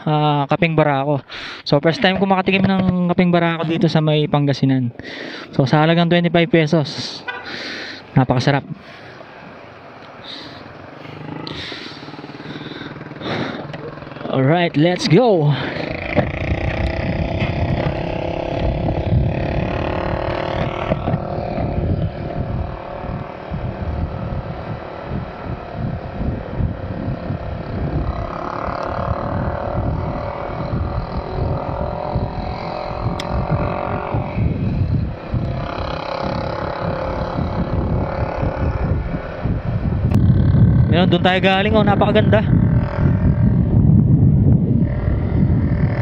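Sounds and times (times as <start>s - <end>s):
motorcycles passing: 0.0s - 46.0s
wind buffeting microphone: 5.2s - 46.0s
scooter engine cruising: 9.1s - 46.0s.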